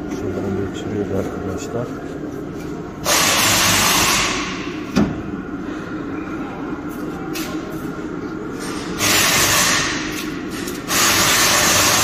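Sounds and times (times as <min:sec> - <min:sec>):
workshop noise: 0:00.0 - 0:12.0.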